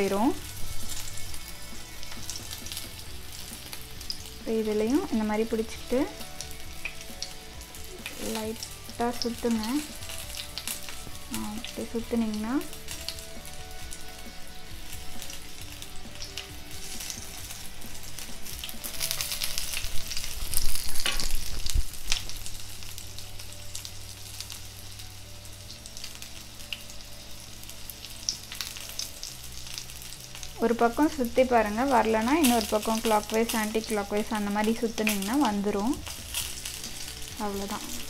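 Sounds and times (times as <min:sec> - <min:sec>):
kebabs sizzling in frying pan: 0:00.0 - 0:38.0.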